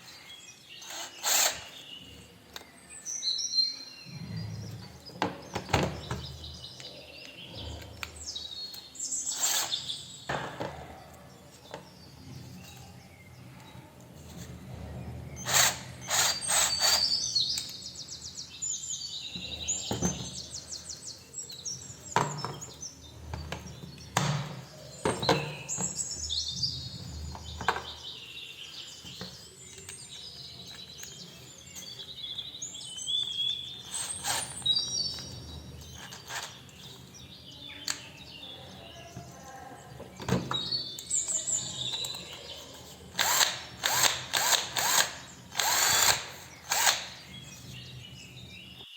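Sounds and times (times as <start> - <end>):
small birds chirping and warbling: 0.0 - 48.9.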